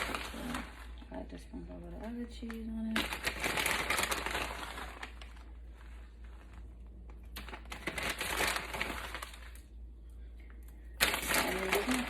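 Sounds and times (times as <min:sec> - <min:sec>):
plastic bag crinkling: 0:00.0 - 0:09.8, 0:10.9 - 0:12.0.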